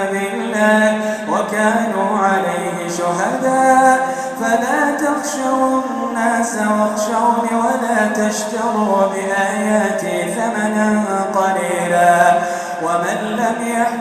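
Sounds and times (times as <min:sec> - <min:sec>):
man chanting recitation: 0:00.0 - 0:14.0.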